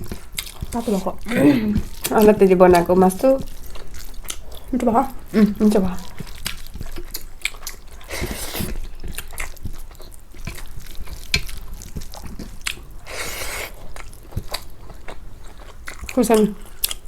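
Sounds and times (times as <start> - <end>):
close-miked chewing: 0.0 - 17.0.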